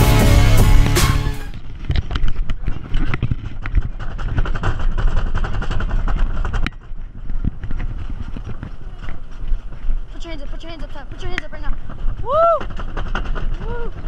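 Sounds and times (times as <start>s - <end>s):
roller coaster chain lift clacking: 1.6s - 14.0s.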